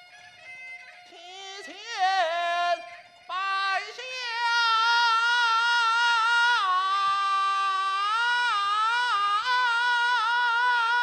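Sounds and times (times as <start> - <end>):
high voice singing with vibrato: 1.1 - 11.0.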